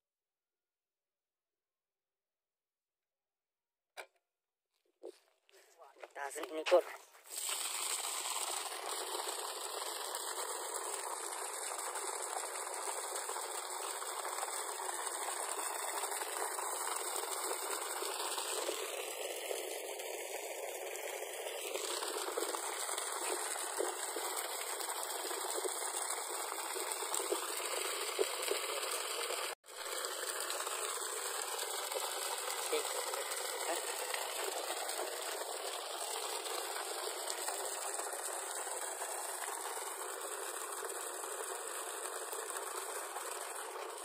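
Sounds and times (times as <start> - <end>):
water gushing from a pipe: 6.1 - 44.0.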